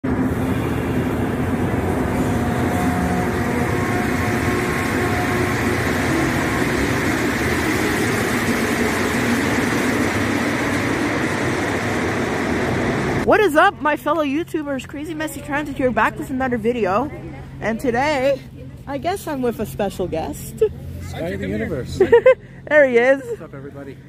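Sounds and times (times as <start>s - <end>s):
subway train rumble and hiss: 0.0s - 24.0s.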